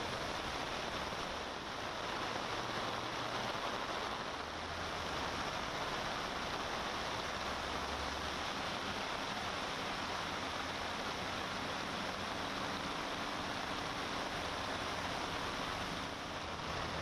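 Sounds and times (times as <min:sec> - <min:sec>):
heavy rain pouring: 0:00.0 - 0:17.0
vehicles driving through water: 0:00.0 - 0:17.0.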